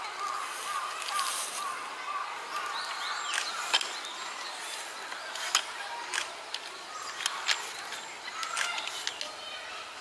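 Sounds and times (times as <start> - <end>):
children's voices chatter: 0.0 - 10.0.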